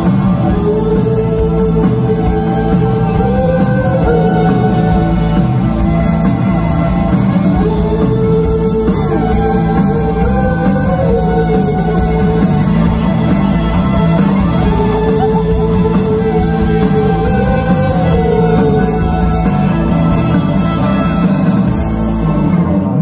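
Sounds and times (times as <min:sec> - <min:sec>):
live country-rock band playing: 0:00.0 - 0:23.0.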